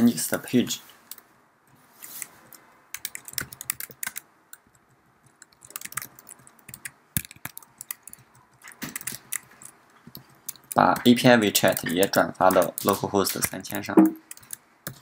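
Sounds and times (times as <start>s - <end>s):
typing on computer keyboard: 2.5s - 15.0s.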